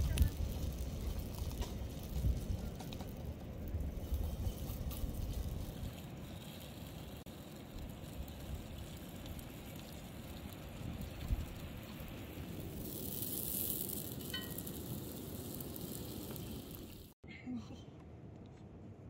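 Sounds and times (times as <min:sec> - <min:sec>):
fire crackling: 0:00.0 - 0:17.2
wood fire rumbling: 0:00.0 - 0:17.2.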